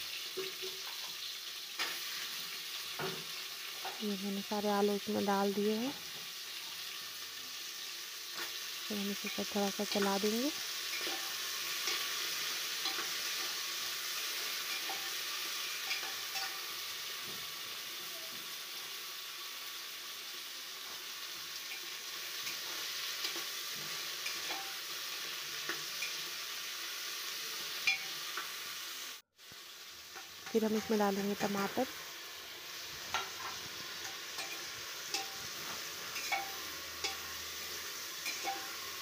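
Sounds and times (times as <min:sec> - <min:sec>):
potatoes sizzling in hot oil: 0:00.0 - 0:39.0.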